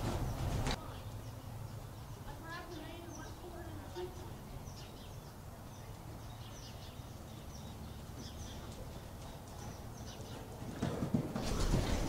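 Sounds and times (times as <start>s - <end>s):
small bird chirping: 0.2s - 10.5s.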